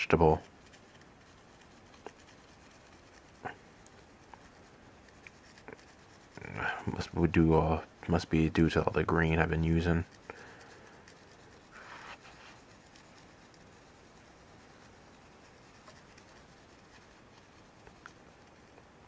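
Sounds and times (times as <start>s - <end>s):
pencil scratching on paper: 0.0s - 18.7s
small ticks: 0.1s - 6.6s, 9.5s - 19.0s.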